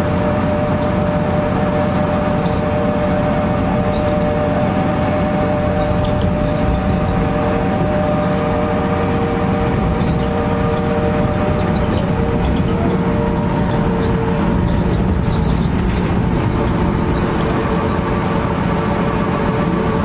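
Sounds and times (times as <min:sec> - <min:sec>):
bus interior rumble: 0:00.0 - 0:20.0
steady multi-tone whine: 0:00.0 - 0:20.0.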